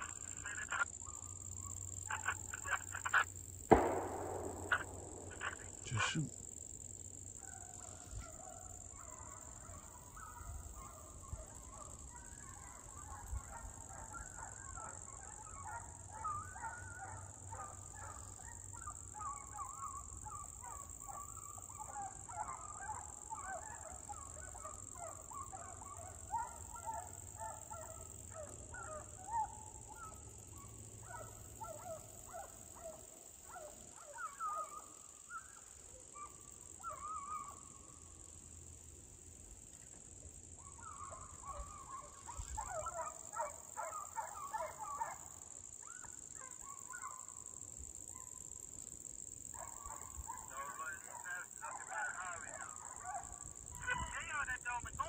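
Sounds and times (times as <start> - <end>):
hounds baying and yelping: 0.0 - 6.1, 7.3 - 38.4, 40.4 - 48.6, 49.2 - 54.8.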